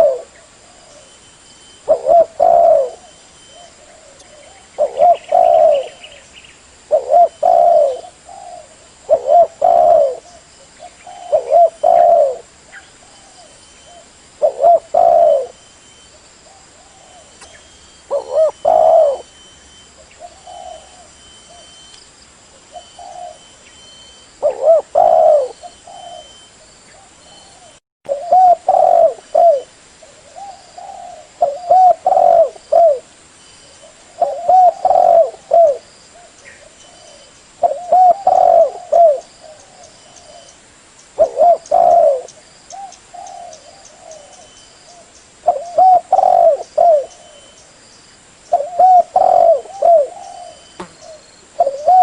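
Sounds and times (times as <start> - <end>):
dove cooing: 0.0 - 1.1, 1.8 - 6.2, 6.9 - 21.8, 22.6 - 40.6, 41.2 - 47.6, 48.5 - 52.0
faint high-pitched hum: 0.0 - 52.0.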